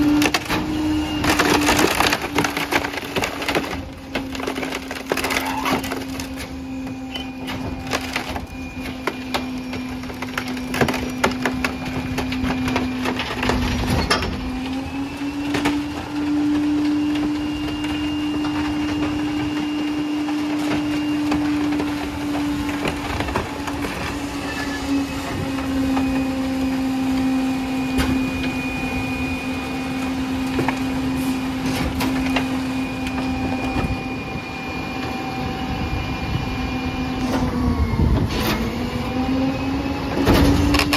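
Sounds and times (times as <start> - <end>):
wood cracking and splintering: 0.0 - 34.0, 40.1 - 40.9
truck engine and hydraulics humming: 0.0 - 40.9.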